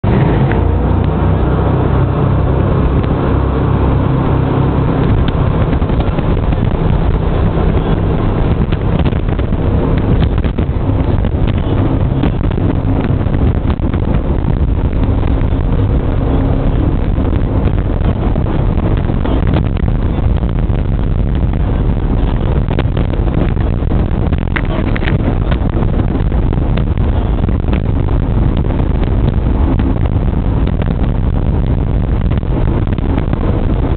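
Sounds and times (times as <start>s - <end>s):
jet boat engine drone: 0.0s - 33.9s
wind on microphone: 0.0s - 33.9s.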